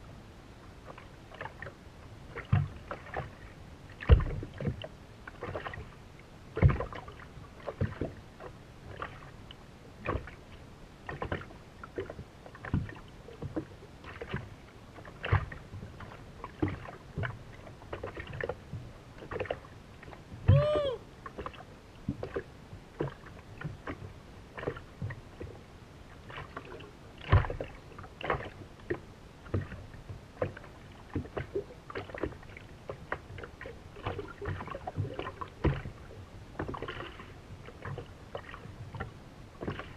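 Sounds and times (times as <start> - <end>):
small waves slapping against a hull: 0.0 - 39.9.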